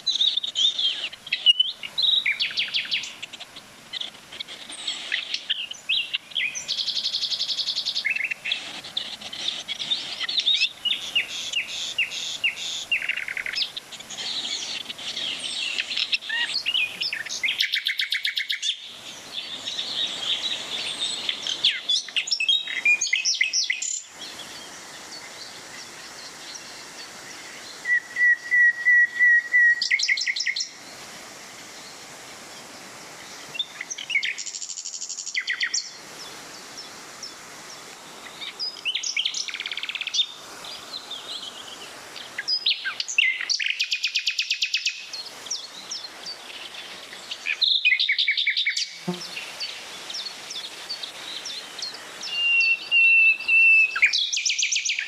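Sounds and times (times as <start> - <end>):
songbirds singing trilled phrases: 0.0 - 31.0, 33.2 - 55.0
small waterfall rushing: 0.0 - 55.0.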